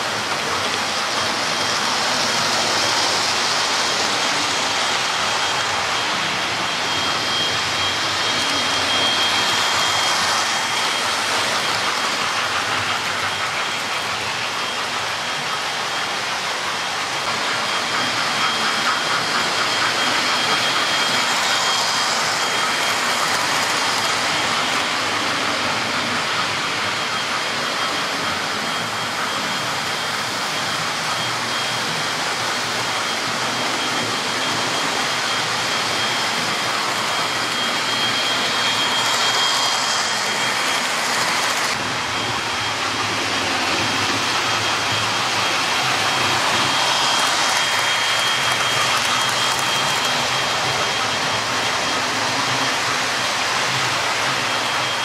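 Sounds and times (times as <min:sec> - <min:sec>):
model train motors whirring: 0:00.0 - 0:55.0
thin high whine: 0:00.0 - 0:55.0.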